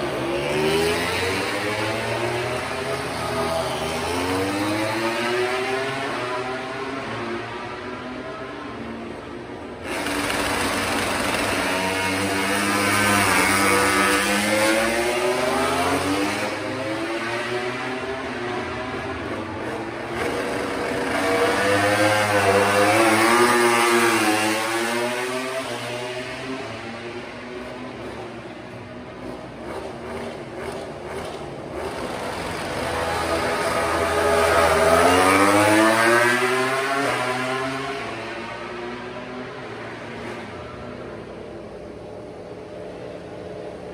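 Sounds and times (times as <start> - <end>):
racing motorcycle at high revs: 0.0 - 8.5, 9.6 - 40.7.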